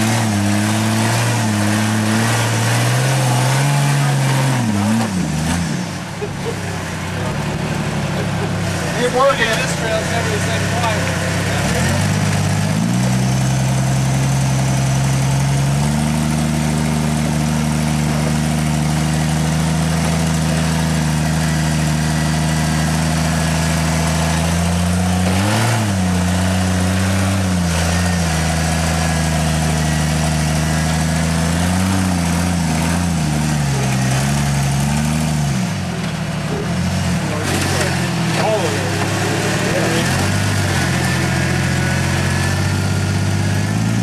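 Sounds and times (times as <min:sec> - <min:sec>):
engine running with throttle blips: 0:00.0 - 0:44.0.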